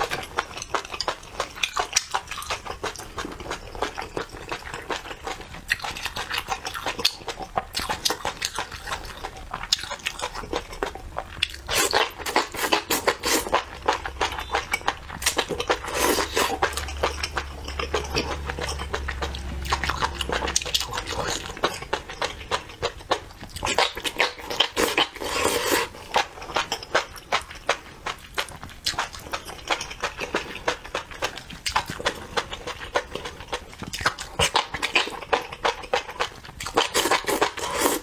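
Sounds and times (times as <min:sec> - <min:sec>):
wet crunchy chewing: 0:00.0 - 0:38.0.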